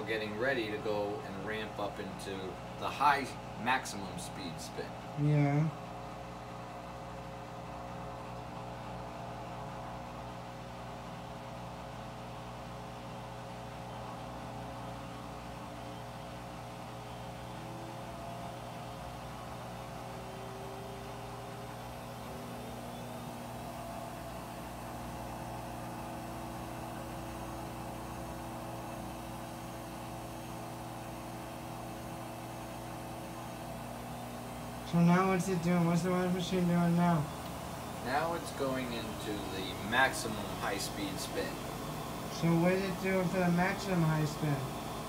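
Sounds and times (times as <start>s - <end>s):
washing machine spinning: 5.2s - 45.0s.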